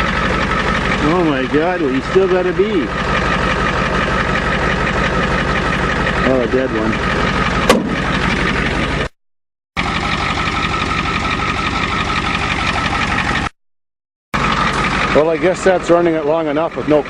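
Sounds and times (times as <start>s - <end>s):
diesel truck engine idling: 0.0s - 9.2s, 9.8s - 13.6s, 14.4s - 17.0s.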